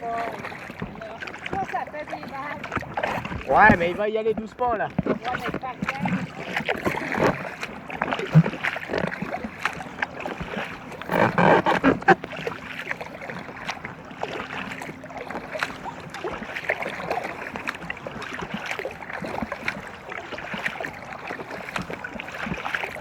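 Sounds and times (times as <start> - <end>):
water splashing from paddling: 0.0 - 23.0.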